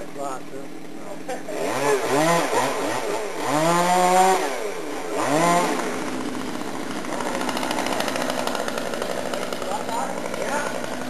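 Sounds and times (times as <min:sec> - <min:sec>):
chainsaw revving and idling: 0:00.0 - 0:11.0.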